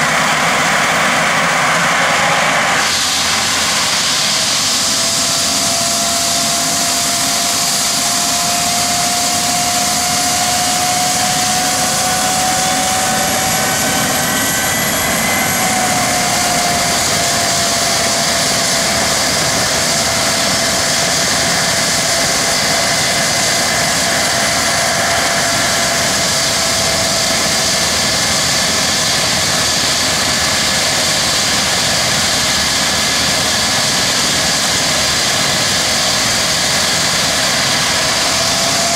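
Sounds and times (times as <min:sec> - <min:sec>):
helicopter rotor and exhaust rush: 0:00.0 - 0:38.9
helicopter turbine engine whine: 0:00.0 - 0:38.9.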